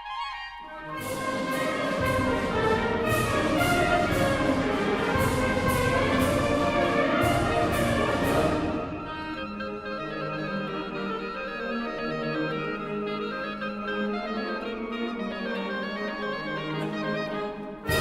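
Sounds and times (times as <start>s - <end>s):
wind band playing: 0.0s - 18.0s
woodwind line: 0.0s - 18.0s.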